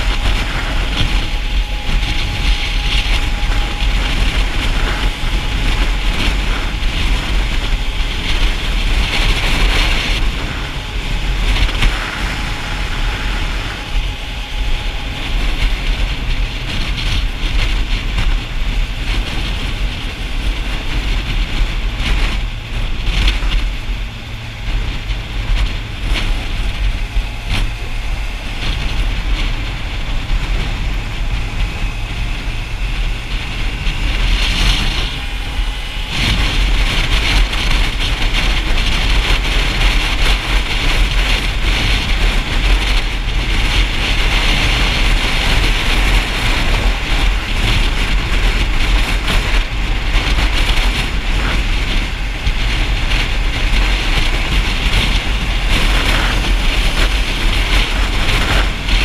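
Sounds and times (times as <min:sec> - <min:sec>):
motorcycle engine rumble: 0:00.0 - 0:59.0
wind and road noise: 0:00.0 - 0:59.0.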